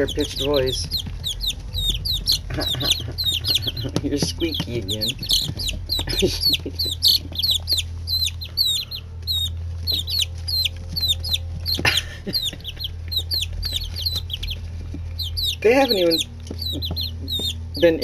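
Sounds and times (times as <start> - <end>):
chicks peeping: 0.0 - 18.0
steady low hum: 0.0 - 18.0.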